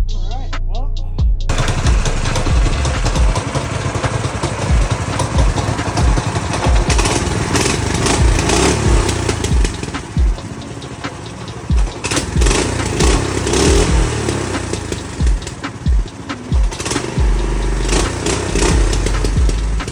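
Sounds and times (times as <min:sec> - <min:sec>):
small engine running: 0:01.5 - 0:19.9.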